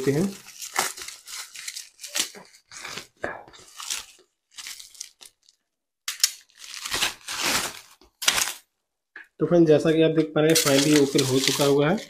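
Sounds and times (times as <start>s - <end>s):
bubble wrap tearing and crinkling: 0.0s - 8.7s, 10.5s - 12.0s.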